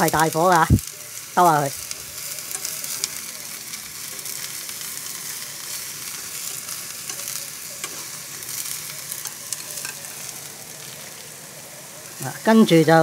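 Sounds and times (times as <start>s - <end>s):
eggplant sizzling in a pan: 0.0s - 13.0s.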